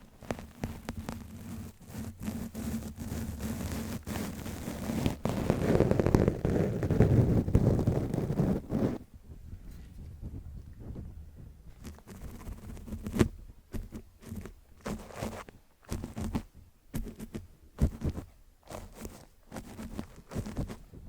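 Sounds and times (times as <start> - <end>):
microphone bumps: 0.0 - 21.0
paintbrush scratching on covered microphone: 0.0 - 21.0.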